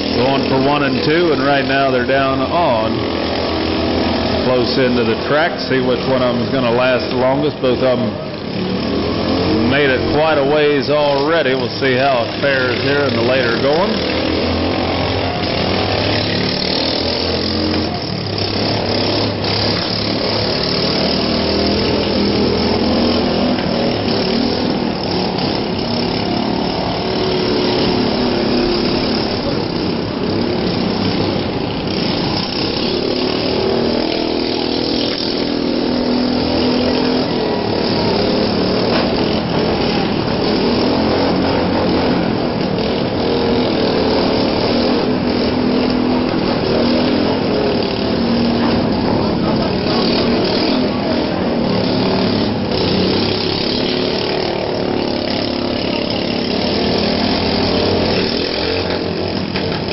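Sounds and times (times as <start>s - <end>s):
lawn mower engines revving: 0.0s - 59.9s.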